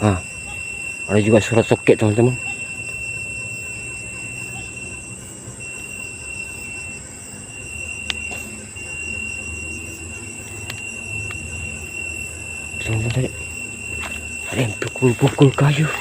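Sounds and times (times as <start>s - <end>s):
night insects trilling: 0.0s - 16.0s.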